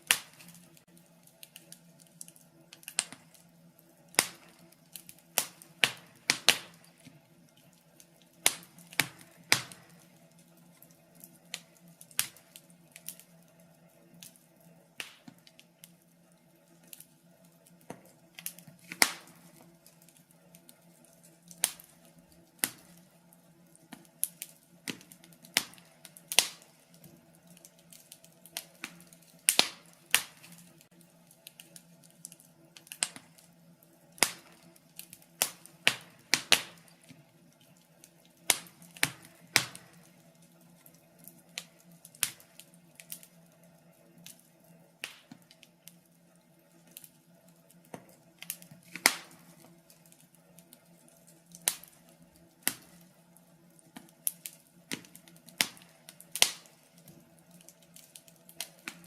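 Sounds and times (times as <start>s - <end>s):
steady low hum: 0.0s - 59.0s
wood fire crackling and popping: 0.0s - 59.0s.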